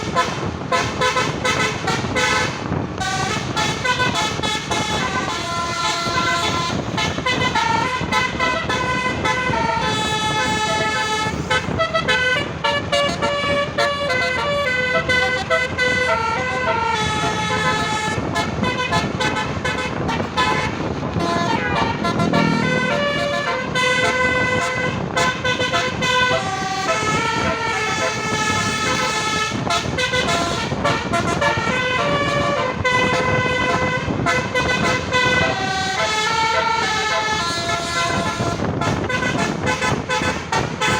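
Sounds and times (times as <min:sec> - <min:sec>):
bus horn playing melody: 0:00.0 - 0:40.9
traffic noise: 0:00.0 - 0:40.9.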